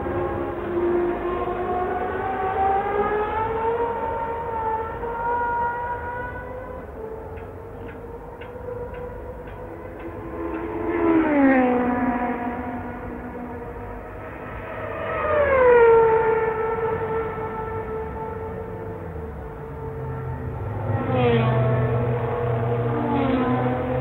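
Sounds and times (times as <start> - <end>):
car passing: 0.0 - 24.0
racing car engine at high revs: 0.0 - 24.0.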